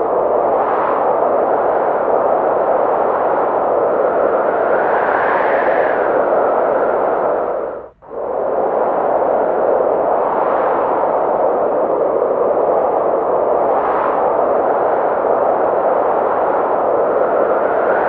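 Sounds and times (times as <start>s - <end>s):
snowstorm wind hissing: 0.0s - 18.0s.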